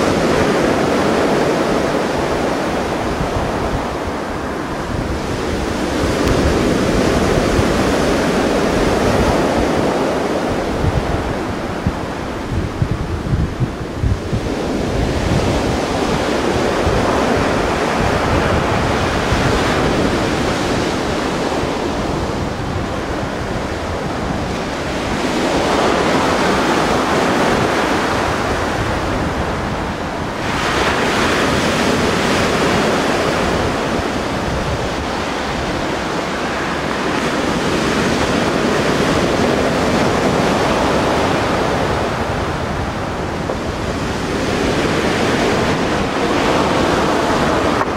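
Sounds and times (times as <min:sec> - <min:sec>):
sea surf washing in and out: 0:00.0 - 0:47.9
wind rumbling on microphone: 0:00.0 - 0:47.9.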